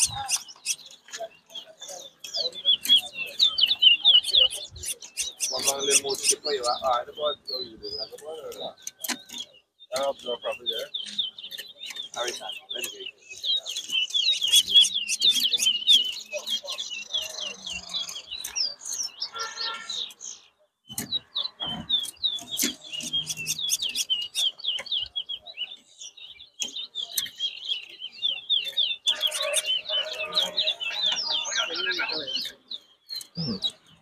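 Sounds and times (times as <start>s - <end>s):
finch singing high chirps: 0.0s - 34.0s.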